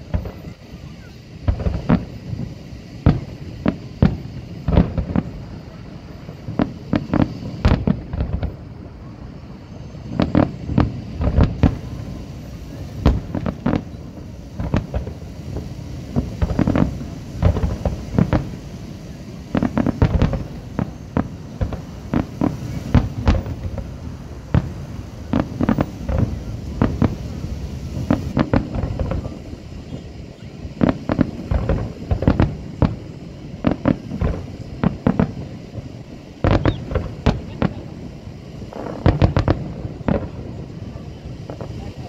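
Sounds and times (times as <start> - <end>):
fireworks bursting with sharp bangs: 0.0 - 42.0.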